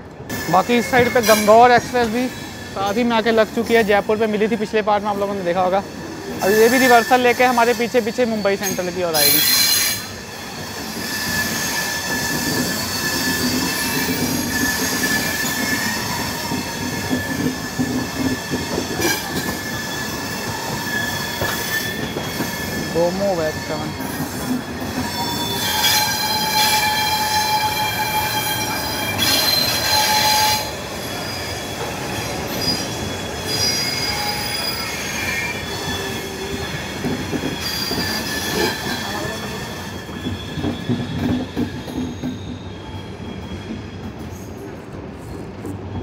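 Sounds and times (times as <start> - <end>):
train rumble: 0.0 - 46.0
train wheels squealing on rails: 0.1 - 46.0.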